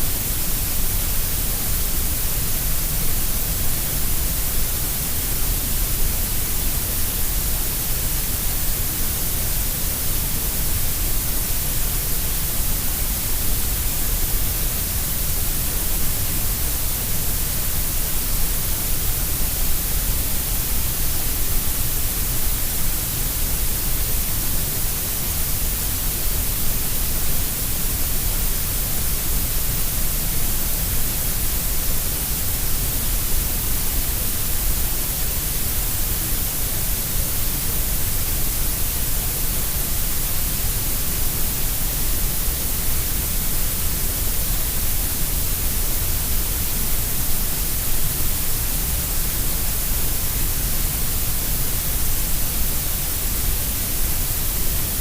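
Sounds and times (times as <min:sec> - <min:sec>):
steady grey noise hiss: 0:00.0 - 0:55.0.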